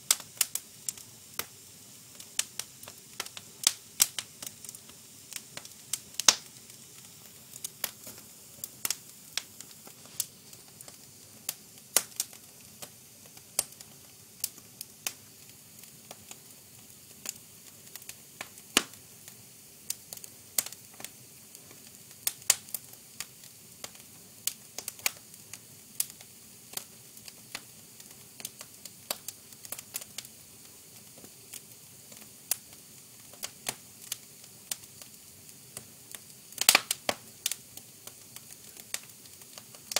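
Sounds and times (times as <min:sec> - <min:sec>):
fire crackling and popping: 0:00.0 - 0:39.9
low hiss: 0:00.0 - 0:39.9.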